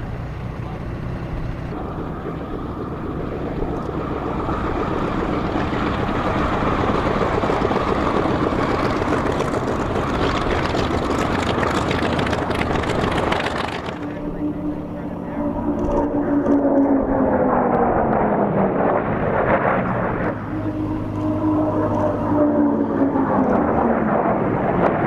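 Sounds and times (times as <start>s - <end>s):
propeller plane engine: 0.0s - 25.0s.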